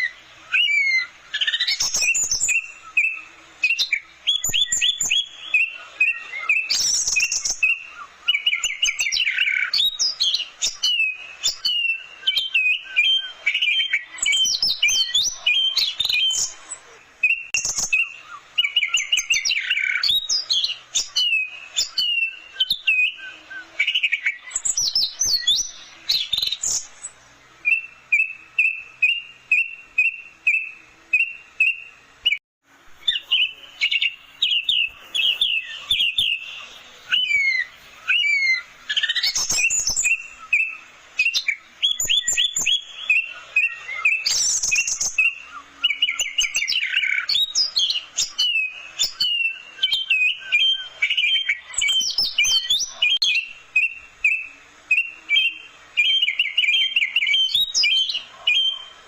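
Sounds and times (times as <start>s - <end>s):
thrush singing varied song: 0.0s - 59.0s.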